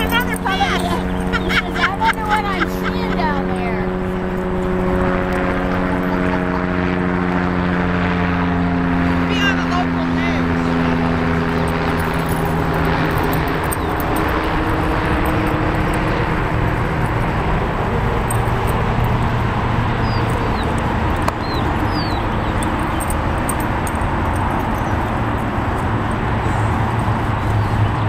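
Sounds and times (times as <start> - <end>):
loud rumbling with low hum: 0.0 - 28.0.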